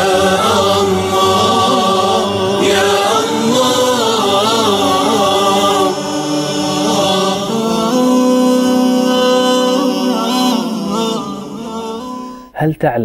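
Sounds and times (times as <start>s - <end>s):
chorus singing devotional song: 0.0s - 12.4s.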